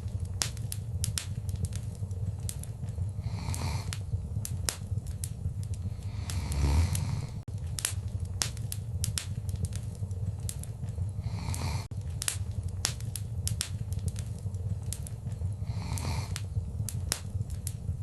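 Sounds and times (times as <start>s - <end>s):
fire popping: 0.0s - 18.0s
low rumble of flames: 0.0s - 18.0s
wood fire crackling: 0.0s - 18.0s.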